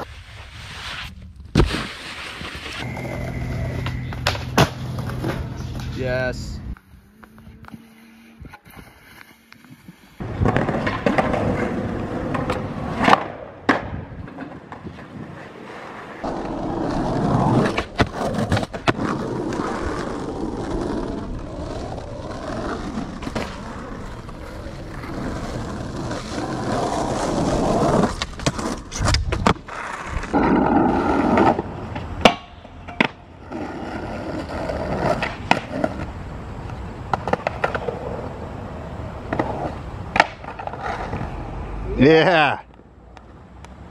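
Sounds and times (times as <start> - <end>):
skateboard wheels rolling on concrete: 0.0 - 43.9.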